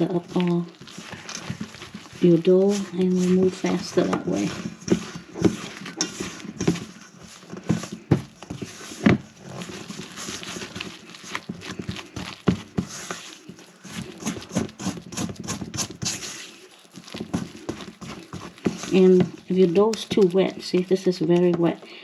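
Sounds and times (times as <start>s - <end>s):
dough squishing: 0.0s - 22.0s.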